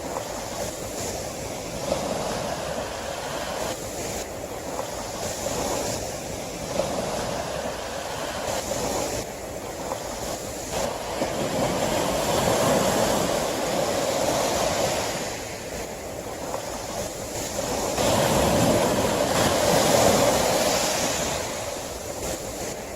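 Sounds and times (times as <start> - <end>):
sea waves washing: 0.0 - 22.9.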